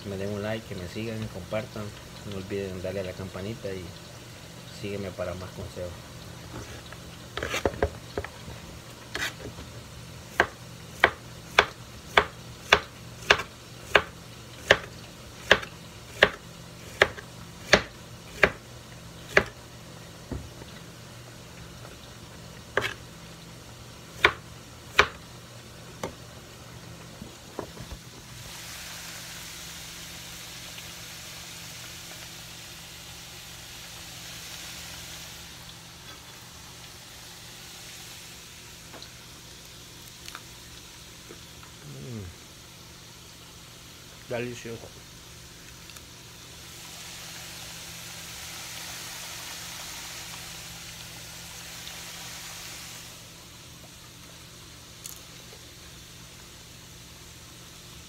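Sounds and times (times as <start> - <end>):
banana slices sizzling in oil: 0.0 - 58.0.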